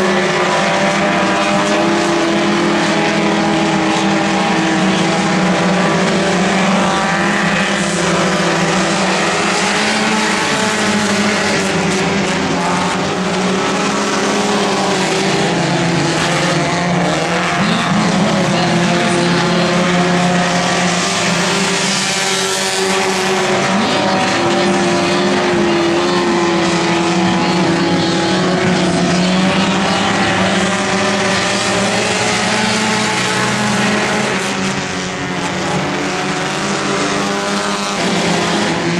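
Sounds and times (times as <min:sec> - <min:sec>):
race car engines droning: 0:00.0 - 0:38.9.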